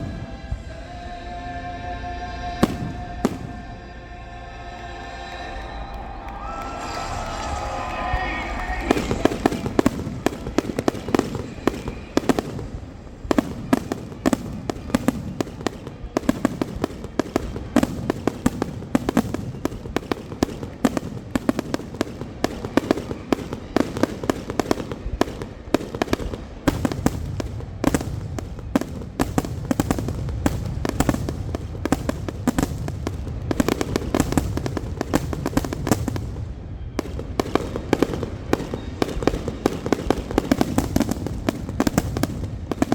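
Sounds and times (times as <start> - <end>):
fireworks bangs and crackling: 0.0 - 0.9, 2.6 - 3.8, 4.6 - 42.9.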